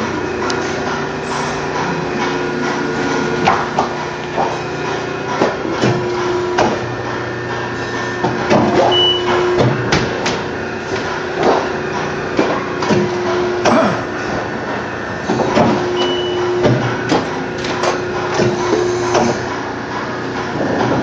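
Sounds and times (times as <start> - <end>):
hydraulic hum: 0.0 - 21.0.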